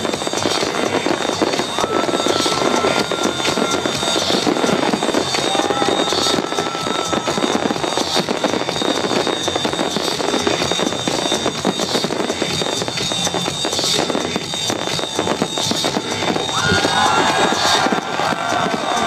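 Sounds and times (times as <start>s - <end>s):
fireworks crackling and popping: 0.0s - 19.0s
high firework whistle: 0.0s - 19.0s.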